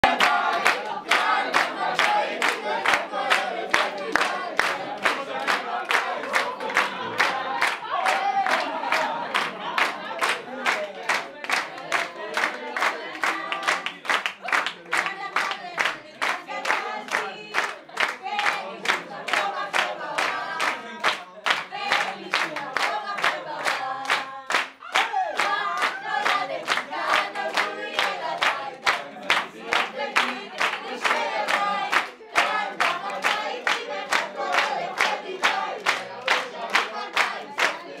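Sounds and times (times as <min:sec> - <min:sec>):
crowd singing unaccompanied: 0:00.0 - 0:38.0
people clapping in time: 0:00.0 - 0:38.0.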